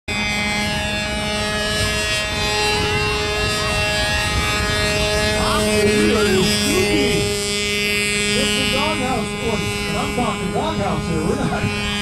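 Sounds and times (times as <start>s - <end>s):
model airplane engine running: 0.1s - 12.0s.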